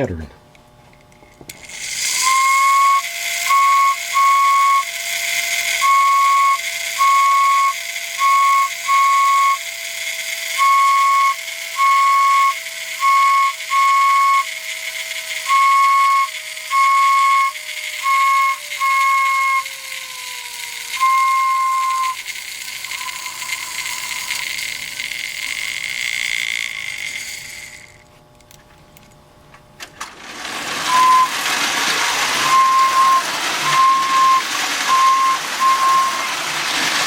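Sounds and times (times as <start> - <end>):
clockwork gears whirring: 1.2 - 29.1, 29.8 - 37.0
toy train whistle tooting: 1.6 - 27.8, 30.8 - 37.0.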